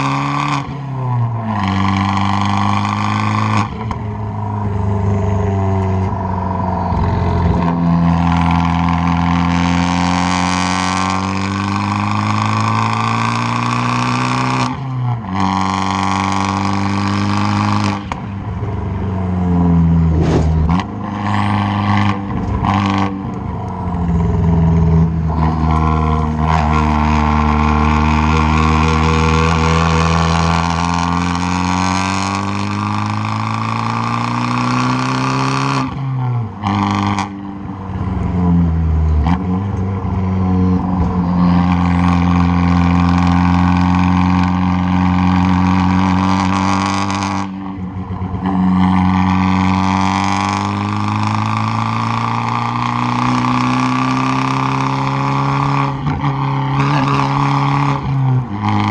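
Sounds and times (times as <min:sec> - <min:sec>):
car exhaust revving: 0:00.0 - 0:58.9.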